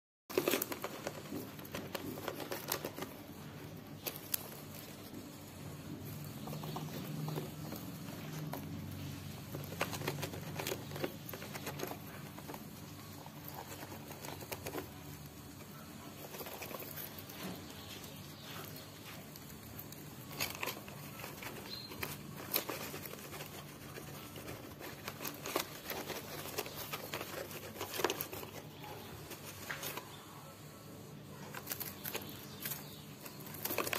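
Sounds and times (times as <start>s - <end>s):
squirrel scratching and rustling: 0.3s - 33.9s.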